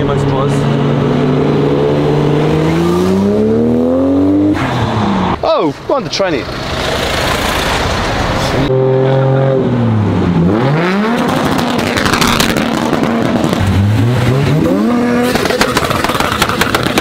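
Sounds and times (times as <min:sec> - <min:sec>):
cars driving past revving: 0:00.0 - 0:05.4, 0:06.3 - 0:17.0.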